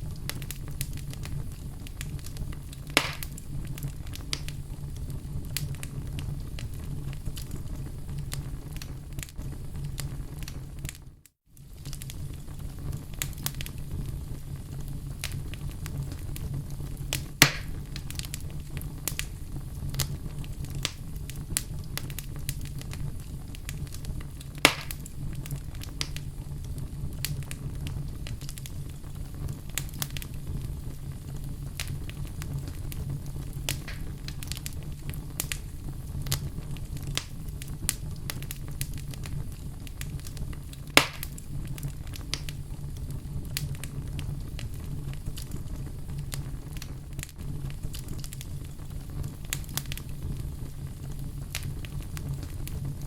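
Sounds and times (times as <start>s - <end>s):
fire crackling in fireplace: 0.0s - 53.0s
loud fire pops: 0.0s - 53.0s.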